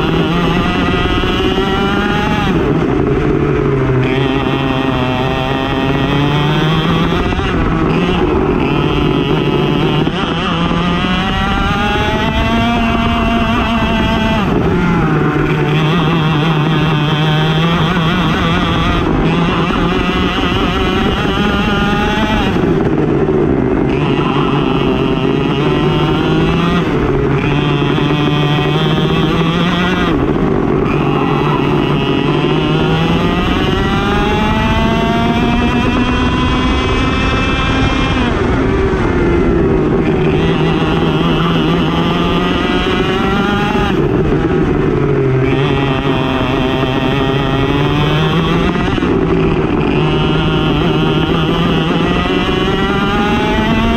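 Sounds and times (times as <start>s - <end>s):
go-kart engine at full throttle: 0.0s - 53.9s.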